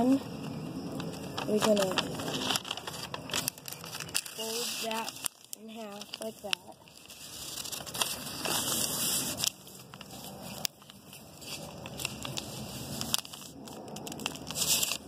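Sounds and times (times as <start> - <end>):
paper crinkling and rustling: 1.0 - 15.0.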